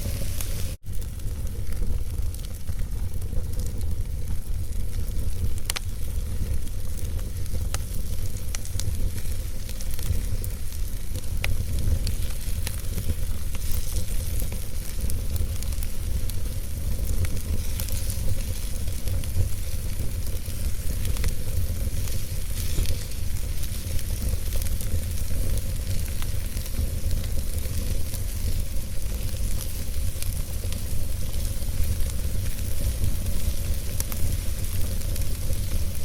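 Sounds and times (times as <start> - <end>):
wood fire burning: 0.0 - 36.0.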